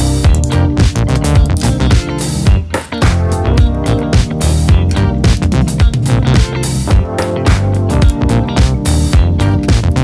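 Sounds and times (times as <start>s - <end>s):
funk music with bass and guitar: 0.0s - 10.0s.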